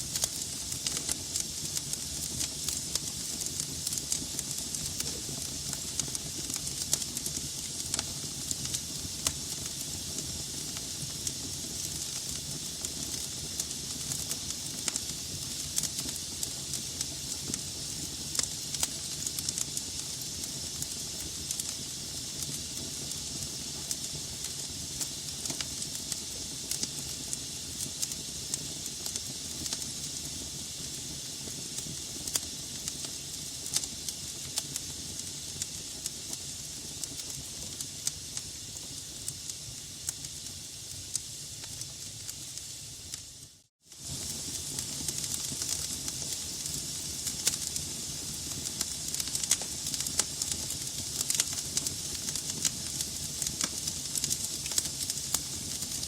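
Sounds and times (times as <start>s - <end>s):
logs burning in fireplace: 0.0s - 56.0s.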